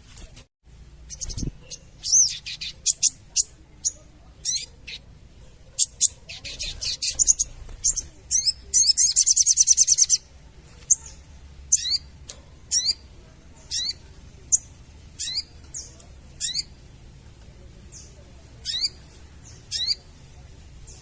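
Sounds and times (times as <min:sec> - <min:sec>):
bird chattering trill: 0:01.0 - 0:05.2, 0:05.8 - 0:16.8, 0:17.9 - 0:20.1.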